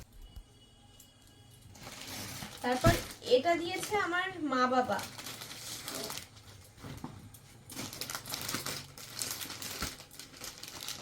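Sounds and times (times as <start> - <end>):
packaging rustling: 1.7 - 11.0.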